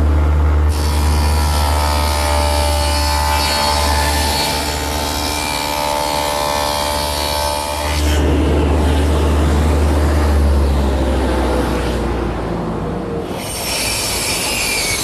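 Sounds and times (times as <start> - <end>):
table saw cutting plywood: 0.0 - 12.5, 13.1 - 15.0.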